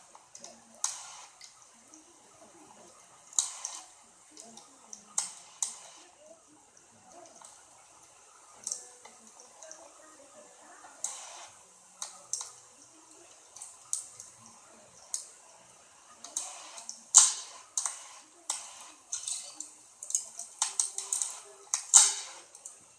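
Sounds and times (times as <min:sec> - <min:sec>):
faint steady hiss: 0:00.0 - 0:22.9
wood fire crackling: 0:00.0 - 0:22.9.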